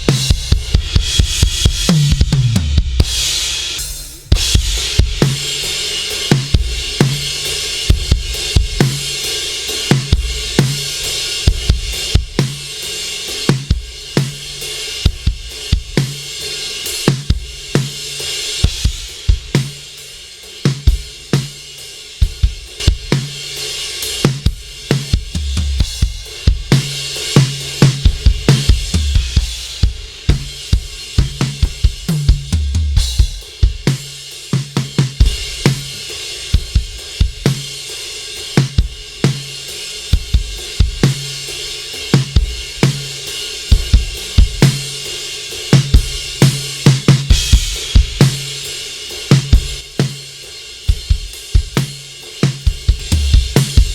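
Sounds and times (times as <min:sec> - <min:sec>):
drum kit playing a groove: 0:00.0 - 0:53.9.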